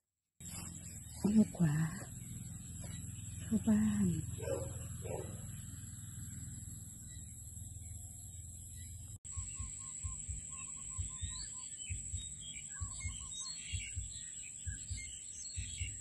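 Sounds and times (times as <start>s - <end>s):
birds chirping and calling: 0.4s - 16.0s.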